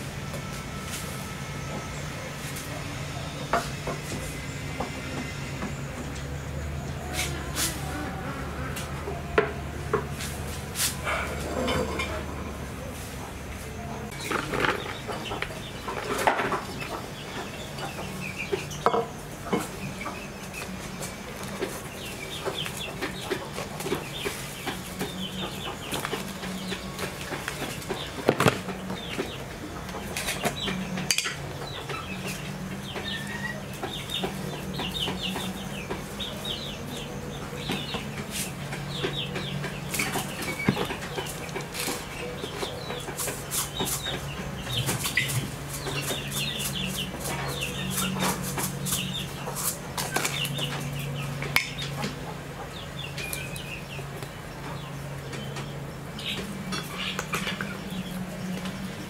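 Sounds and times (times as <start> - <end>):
poultry peeping and clucking: 0.0 - 59.0
steady low hum: 0.0 - 59.0.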